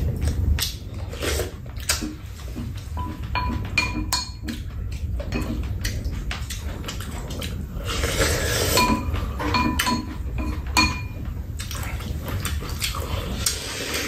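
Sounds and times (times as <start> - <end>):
chopsticks and spoons clinking on bowls: 1.9 - 13.7.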